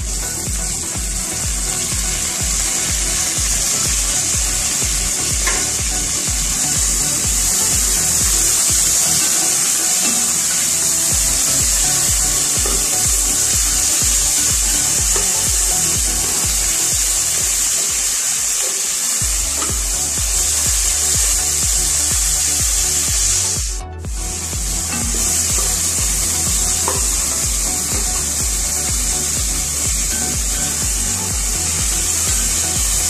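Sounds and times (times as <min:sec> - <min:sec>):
background music with a beat: 0:00.0 - 0:18.2, 0:19.0 - 0:33.0
vegetables sizzling in a pan: 0:00.0 - 0:23.7, 0:24.4 - 0:33.0.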